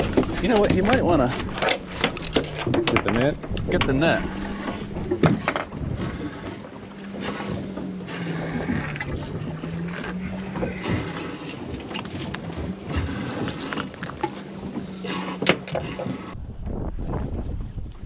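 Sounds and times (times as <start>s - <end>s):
knocks on boat: 0.0s - 16.2s
wind buffeting microphone: 0.0s - 18.0s.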